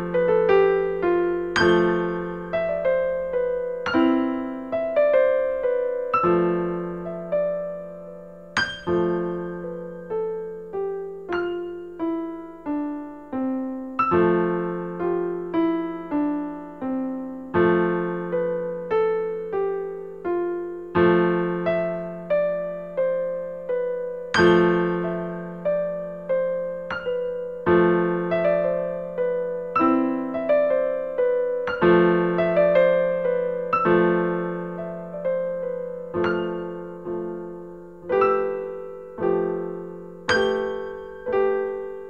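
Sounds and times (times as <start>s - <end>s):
solo piano music: 0.0s - 42.0s.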